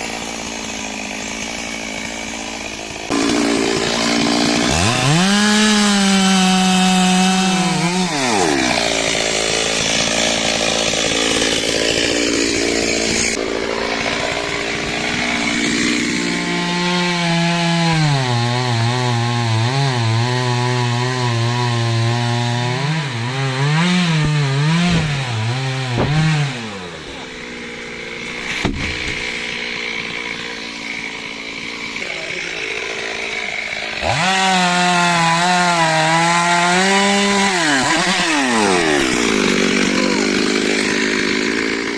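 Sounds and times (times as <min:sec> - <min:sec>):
chainsaw running: 0:00.0 - 0:41.9.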